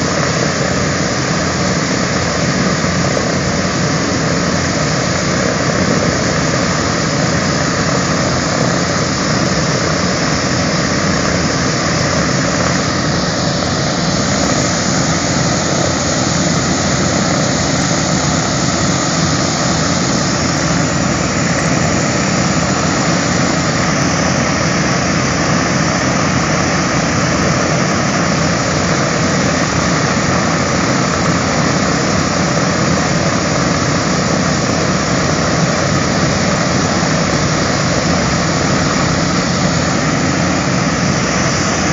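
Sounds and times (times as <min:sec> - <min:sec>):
radial piston engines running: 0:00.0 - 0:41.9
second aircraft's engines: 0:00.0 - 0:41.9.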